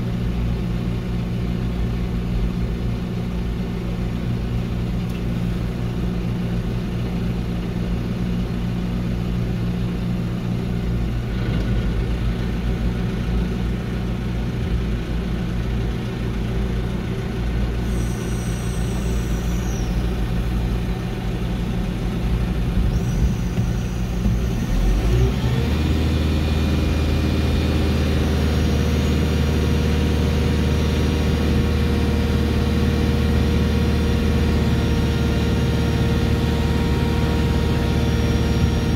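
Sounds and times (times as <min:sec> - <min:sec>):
diesel engine running and revving: 0:00.0 - 0:38.9.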